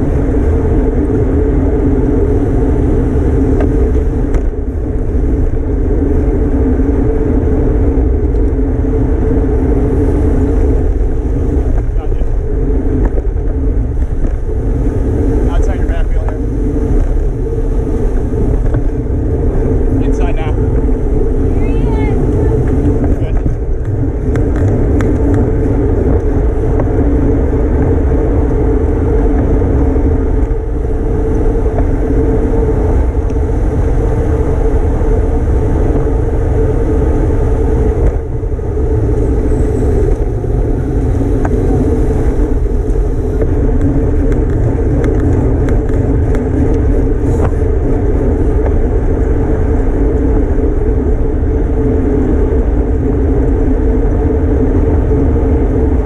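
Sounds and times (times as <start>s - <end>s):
low rumble: 0.0s - 56.0s
wind rushing over microphone: 0.0s - 56.0s.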